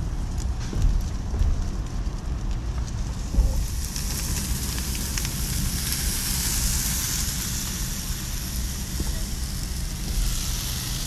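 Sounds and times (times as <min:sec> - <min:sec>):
brush fire hissing: 0:00.0 - 0:11.0
vehicle rolling on gravel: 0:00.0 - 0:11.0.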